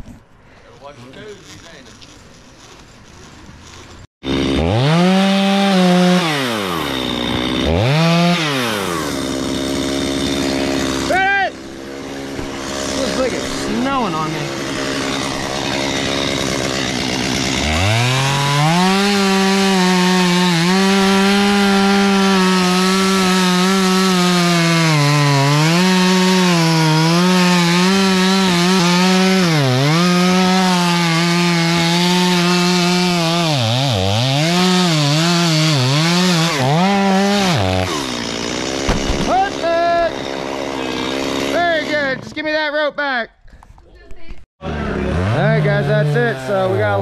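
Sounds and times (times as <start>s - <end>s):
chainsaw revving and cutting: 1.2s - 42.6s, 44.6s - 47.0s.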